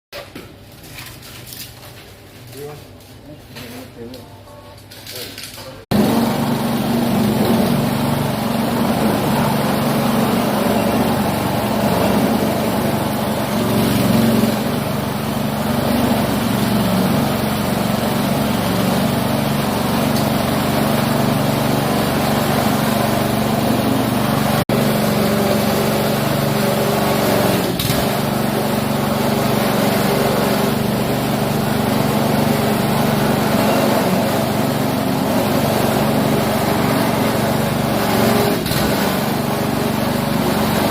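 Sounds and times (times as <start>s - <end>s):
machine motor drone: 5.9s - 40.9s.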